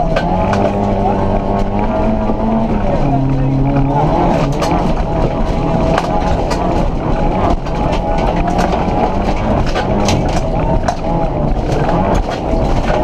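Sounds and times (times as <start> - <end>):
car engine running hard: 0.0 - 13.0
gravel rattling against car body: 0.0 - 13.0.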